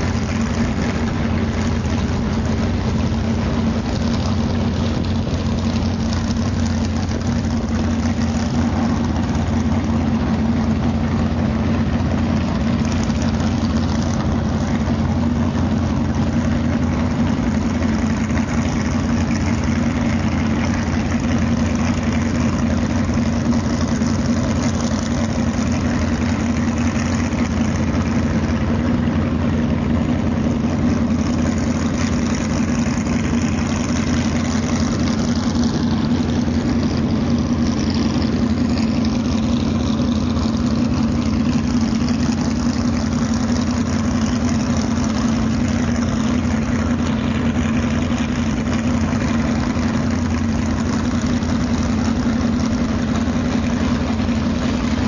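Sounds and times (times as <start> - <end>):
boat engine running near idle: 0.0 - 55.0.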